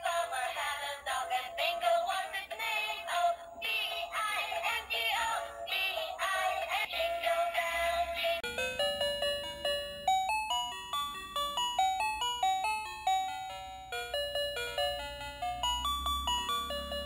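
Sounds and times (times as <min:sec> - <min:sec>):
toy playing electronic beeping tune: 0:01.2 - 0:17.0.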